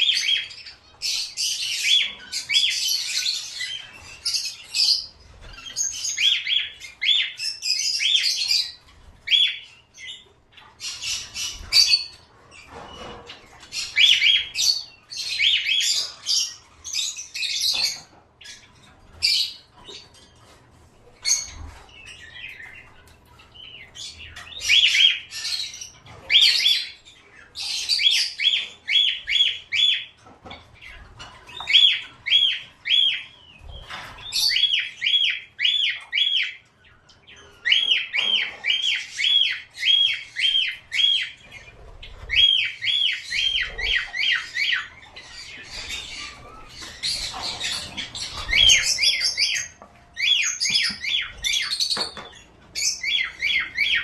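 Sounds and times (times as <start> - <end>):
cage birds chirping and squawking: 0.0 - 54.0.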